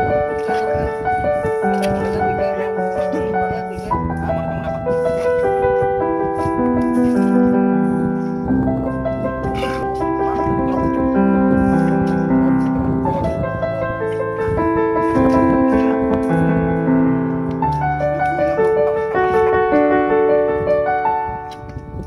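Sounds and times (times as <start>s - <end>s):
piano-like keyboard music: 0.0s - 22.0s.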